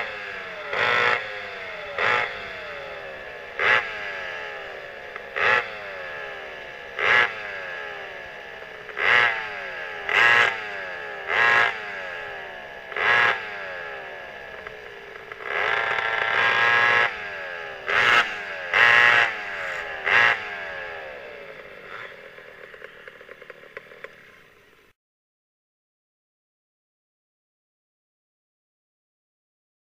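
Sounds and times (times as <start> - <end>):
two-stroke kart engines revving: 0.0 - 24.9.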